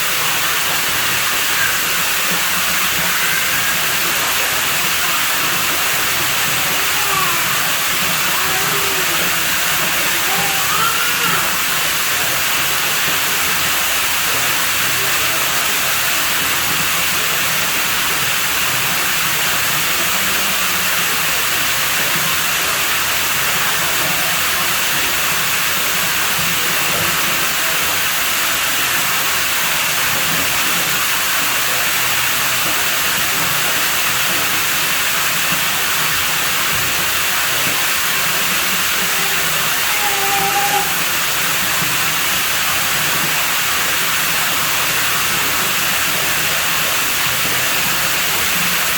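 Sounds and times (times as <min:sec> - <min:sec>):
pool water running: 0:00.0 - 0:48.9.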